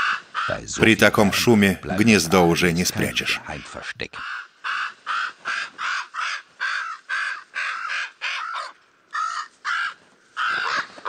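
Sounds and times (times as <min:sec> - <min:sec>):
raven nestlings begging calls: 0:00.0 - 0:11.0.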